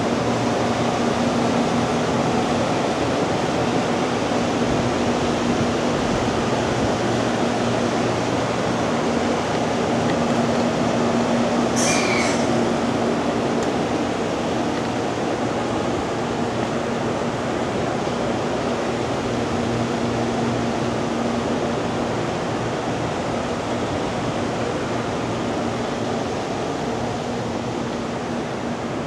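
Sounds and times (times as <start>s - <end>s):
electric train idling rush and hum: 0.0s - 29.0s.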